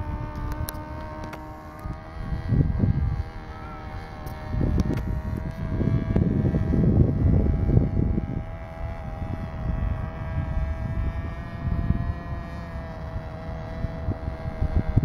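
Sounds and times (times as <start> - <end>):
model plane engine buzzing: 0.0 - 15.0
wind buffeting microphone: 0.0 - 15.0.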